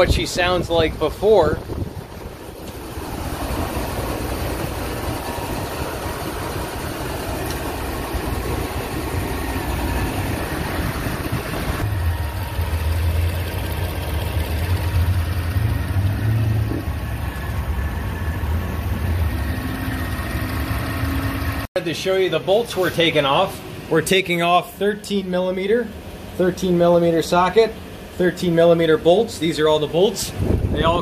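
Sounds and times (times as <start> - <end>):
car engine idling: 0.0 - 30.8.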